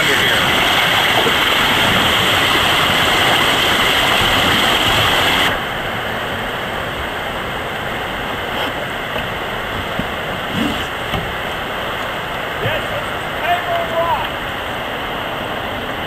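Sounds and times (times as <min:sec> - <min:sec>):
whitewater rushing: 0:00.0 - 0:16.0.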